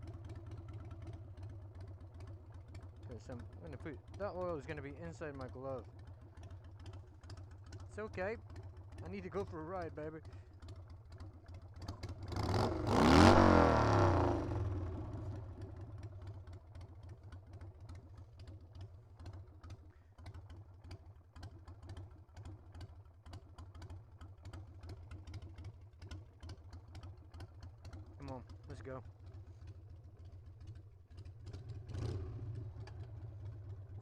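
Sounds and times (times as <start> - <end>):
motorcycle engine revving and idling: 0.0 - 34.0.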